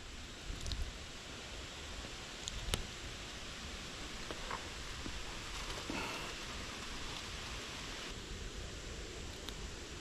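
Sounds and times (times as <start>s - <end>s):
creek water flowing: 0.0s - 8.2s.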